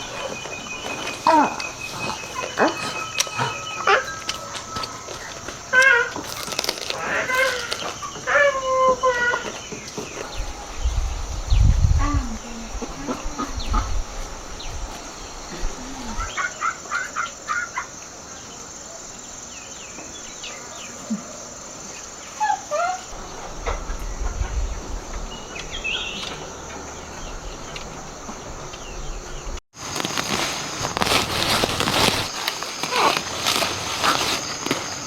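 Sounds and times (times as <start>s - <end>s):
rural background: 0.0s - 35.0s.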